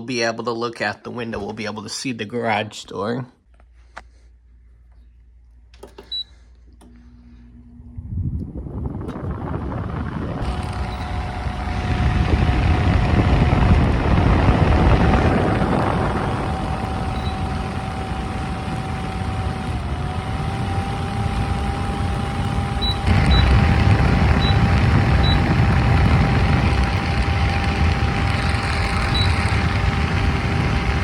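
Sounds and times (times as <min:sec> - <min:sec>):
air conditioner humming: 0:00.0 - 0:31.0.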